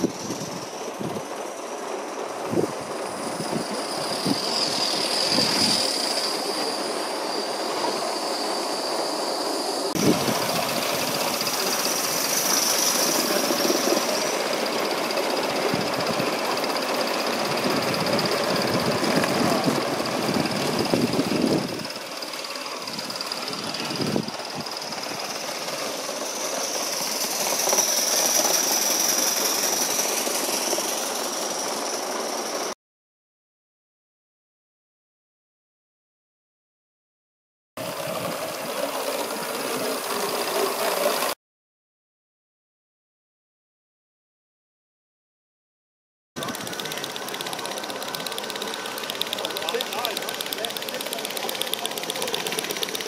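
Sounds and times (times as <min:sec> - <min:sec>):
model steam locomotive running: 0:00.0 - 0:32.8, 0:37.8 - 0:41.4, 0:46.4 - 0:53.0.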